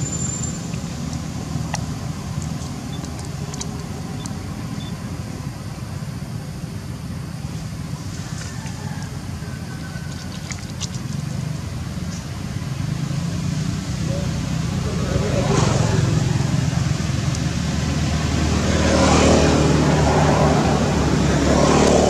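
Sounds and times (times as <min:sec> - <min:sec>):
low motor rumble: 0:00.0 - 0:21.5.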